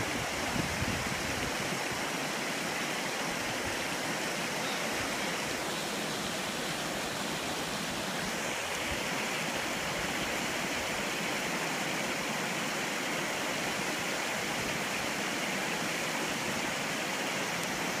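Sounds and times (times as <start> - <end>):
floodwater rushing over road: 0.0 - 18.0.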